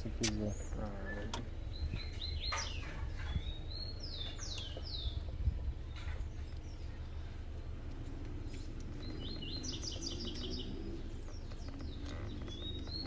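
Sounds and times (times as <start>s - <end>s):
small bird chirping: 0.0s - 13.0s
steady low rumble: 0.0s - 13.0s.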